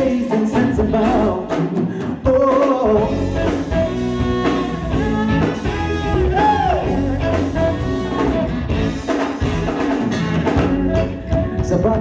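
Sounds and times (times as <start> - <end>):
live pop-rock band: 0.0 - 12.0.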